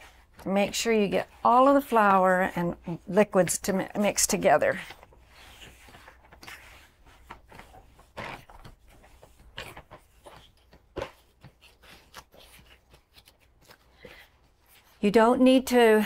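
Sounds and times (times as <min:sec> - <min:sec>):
dough squishing in plastic bowl: 0:00.0 - 0:15.2.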